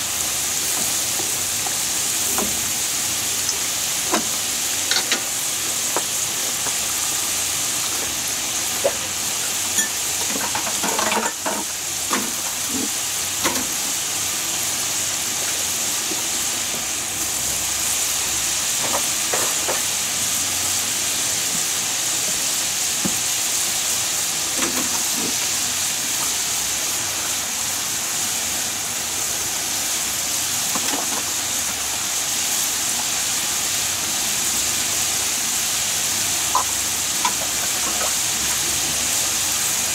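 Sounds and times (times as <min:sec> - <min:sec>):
fries sizzling in hot oil: 0:00.0 - 0:39.9.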